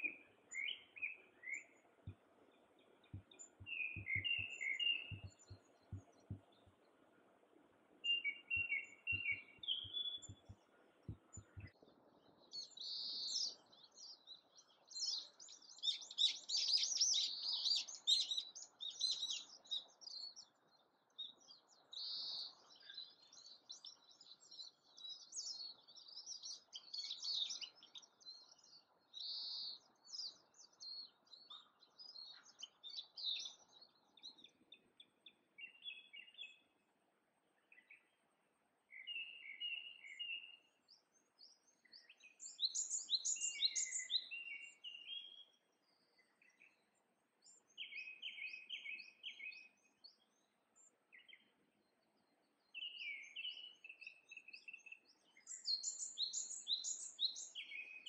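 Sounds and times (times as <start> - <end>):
songbirds calling and twittering: 0.0 - 58.0.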